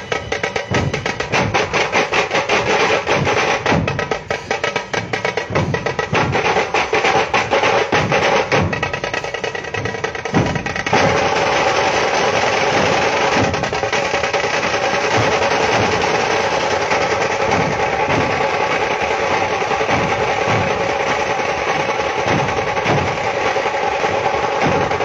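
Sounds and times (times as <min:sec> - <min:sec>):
fast loud drumming: 0:00.0 - 0:25.0.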